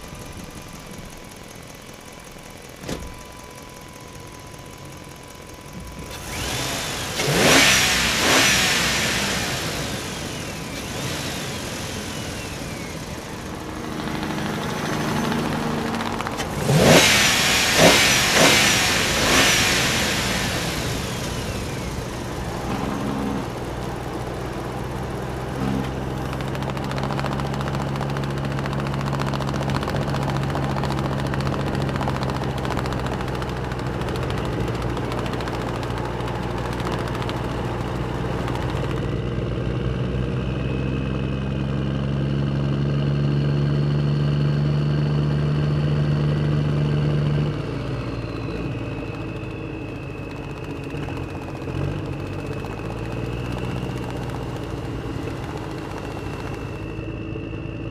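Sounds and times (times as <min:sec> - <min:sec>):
low engine hum: 0:00.0 - 0:57.9.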